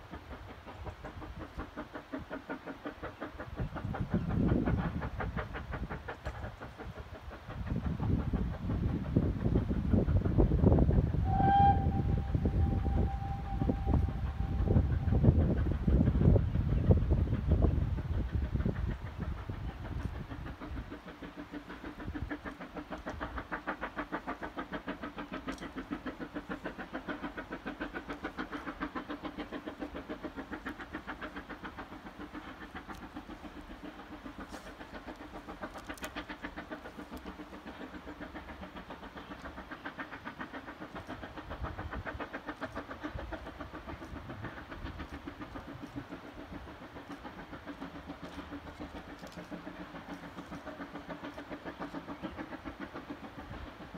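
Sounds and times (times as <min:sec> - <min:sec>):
distant steam locomotive chuffing: 0:00.0 - 0:53.9.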